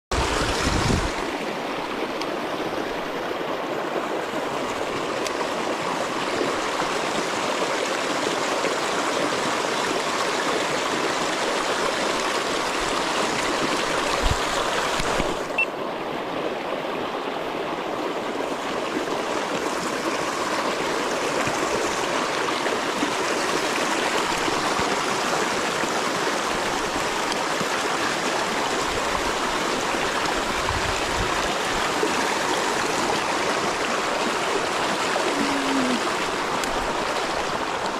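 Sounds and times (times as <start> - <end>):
water rushing over rocks: 0.1 - 37.9.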